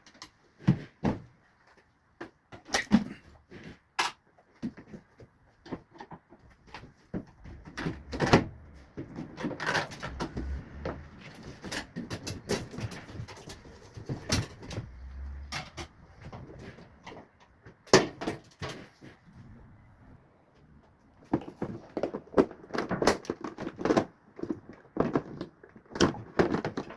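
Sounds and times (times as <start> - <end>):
clicks and clatter of hand work: 0.0 - 19.3, 20.8 - 26.9.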